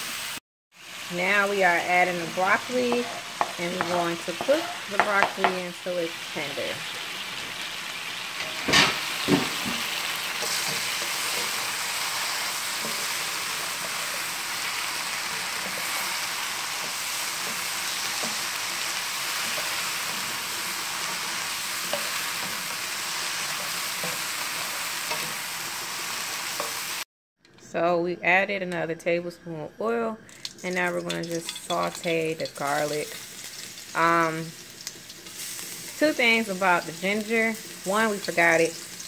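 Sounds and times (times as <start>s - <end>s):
vegetables sizzling in oil: 0.0s - 27.1s, 30.3s - 39.0s.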